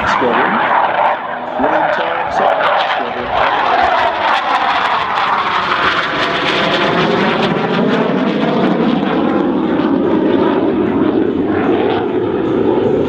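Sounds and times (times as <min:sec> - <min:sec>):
jet engine passing overhead: 0:00.0 - 0:13.0.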